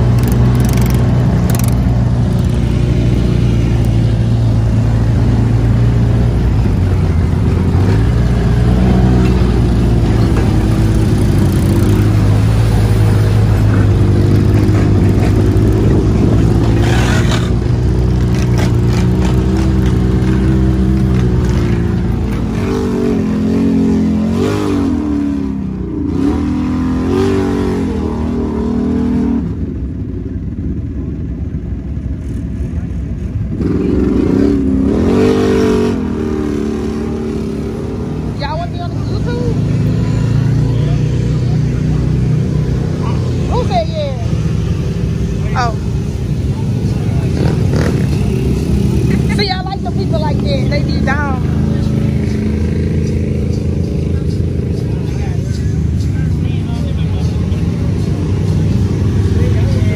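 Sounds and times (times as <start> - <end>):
off-road vehicle engine revving: 0.0 - 30.3, 33.4 - 59.9.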